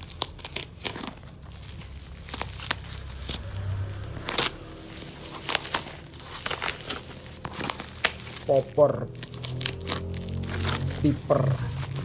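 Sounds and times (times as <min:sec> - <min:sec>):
parcel packaging crinkling: 0:00.0 - 0:12.0.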